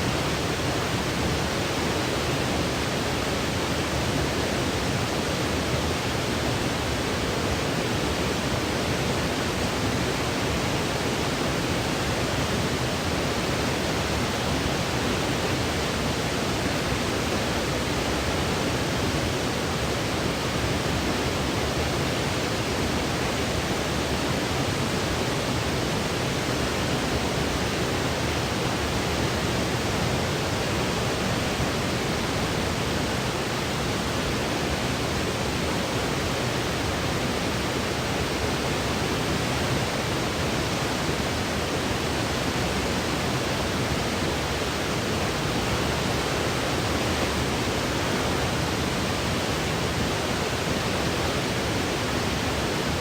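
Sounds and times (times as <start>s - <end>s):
steady white noise hiss: 0.0s - 53.0s.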